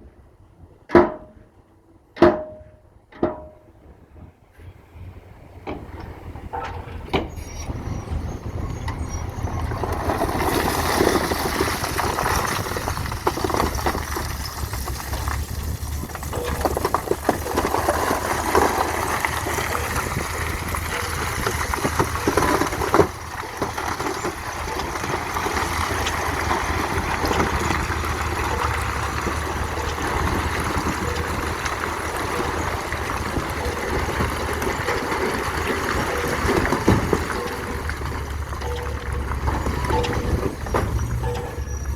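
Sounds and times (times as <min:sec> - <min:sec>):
rough scraping and clattering: 0:04.5 - 0:41.9
model truck motor hum: 0:04.6 - 0:41.9.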